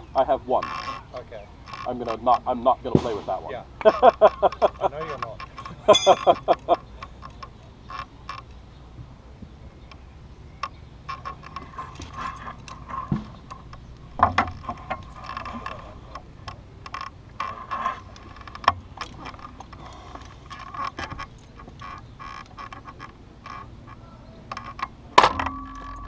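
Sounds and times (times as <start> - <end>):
winch ratchet clicks and creaks: 0.3 - 2.4, 3.8 - 8.6, 10.6 - 26.0.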